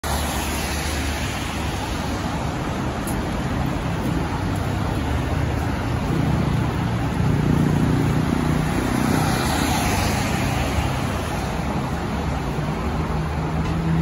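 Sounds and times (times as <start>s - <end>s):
traffic hiss on wet road: 0.0s - 14.0s.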